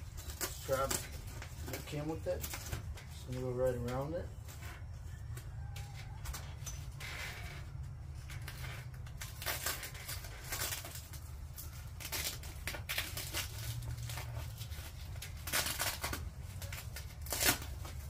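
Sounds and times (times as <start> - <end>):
velcro rasping rips: 0.0 - 3.4, 5.8 - 18.0.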